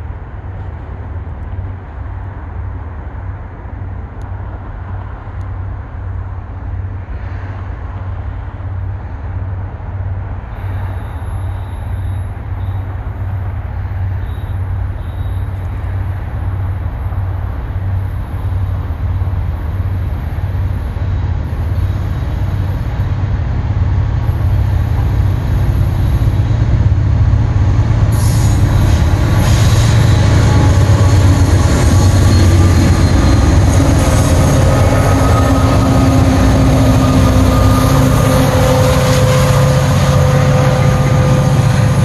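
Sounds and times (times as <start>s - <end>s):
diesel locomotive rumbling: 0.0s - 42.0s.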